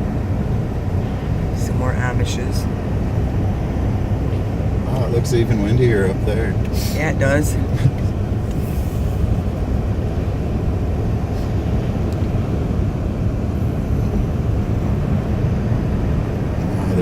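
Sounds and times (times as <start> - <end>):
car interior driving rumble: 0.0 - 17.0.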